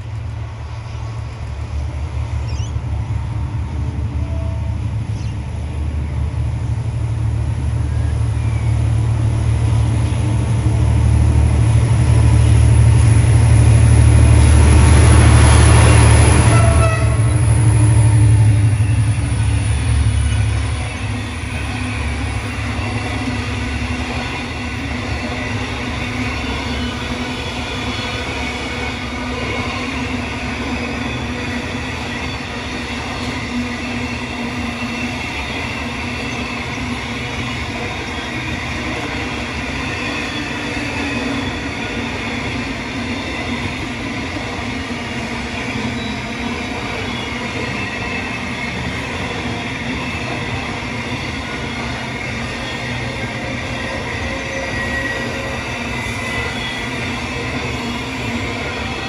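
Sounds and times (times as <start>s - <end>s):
locomotive engines rumbling: 0.0s - 59.0s
train wheels rolling: 0.0s - 59.0s.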